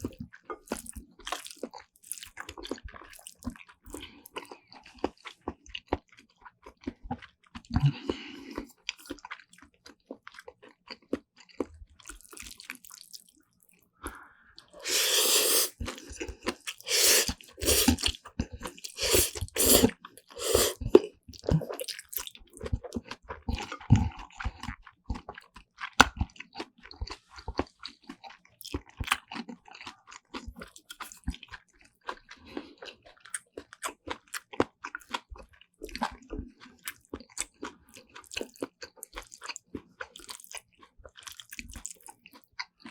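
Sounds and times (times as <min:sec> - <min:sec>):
wet chewing and crunching: 0:00.0 - 0:42.9.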